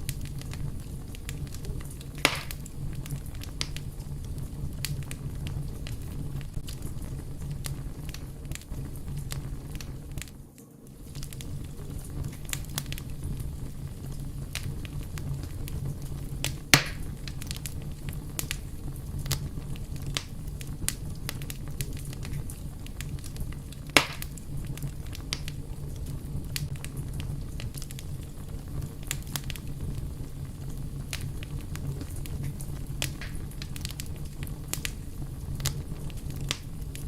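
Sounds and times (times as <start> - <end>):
fire crackling: 0.0 - 37.0
loud pops of fire: 0.0 - 37.0.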